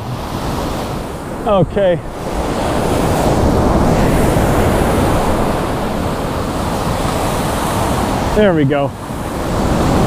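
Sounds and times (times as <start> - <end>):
ocean surf breaking on beach: 0.0 - 10.0.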